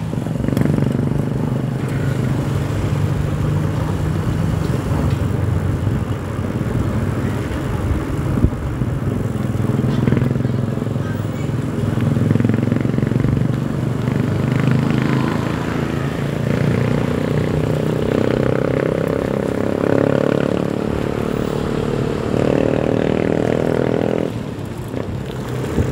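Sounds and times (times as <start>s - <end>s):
motorcycle engines running: 0.0s - 25.9s.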